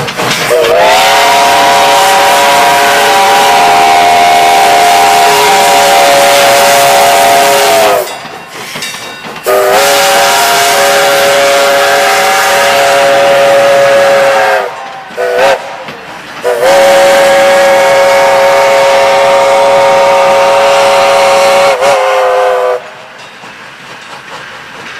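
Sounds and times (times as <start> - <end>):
steam whistle blasts: 0.5 - 8.2, 9.5 - 15.8, 16.4 - 23.0.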